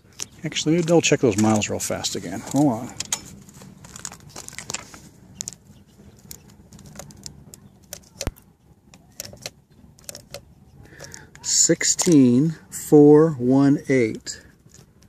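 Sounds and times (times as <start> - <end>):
handling rustle: 0.0 - 12.4.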